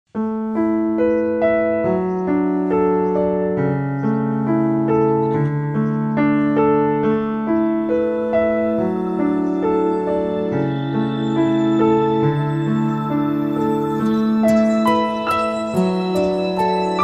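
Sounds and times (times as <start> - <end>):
gentle piano arpeggio: 0.1 - 17.0.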